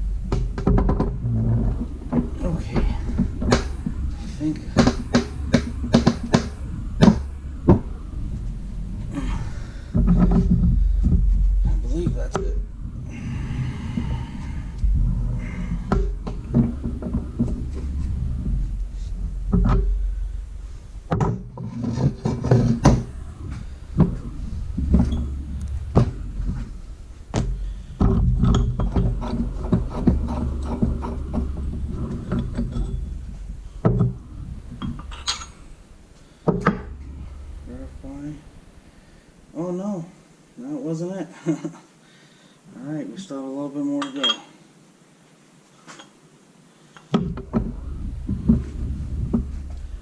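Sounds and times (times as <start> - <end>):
steady low hum: 0.0 - 45.2, 46.0 - 50.0.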